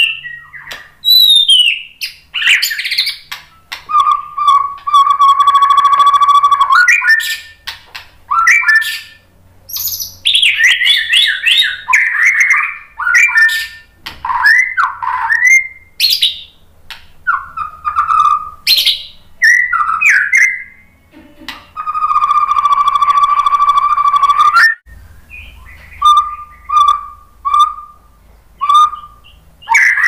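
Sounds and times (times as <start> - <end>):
bird singing whistled phrases: 0.0 - 7.6, 8.3 - 16.6, 17.2 - 20.9, 21.8 - 30.0.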